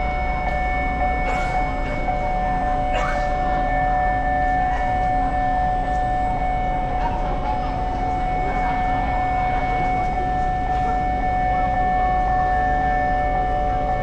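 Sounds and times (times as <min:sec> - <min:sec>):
machinery whine: 0:00.0 - 0:14.0.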